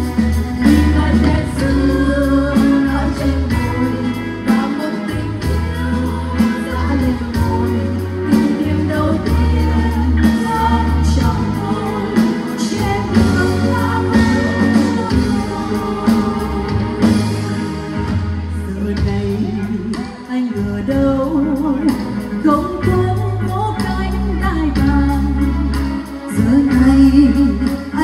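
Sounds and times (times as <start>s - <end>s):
bass line: 0.0s - 28.0s
person singing: 0.0s - 28.0s.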